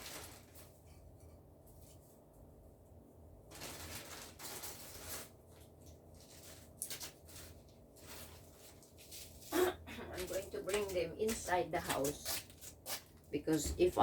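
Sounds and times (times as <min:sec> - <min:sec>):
plant leaves rustling: 0:00.0 - 0:00.9, 0:03.5 - 0:14.0.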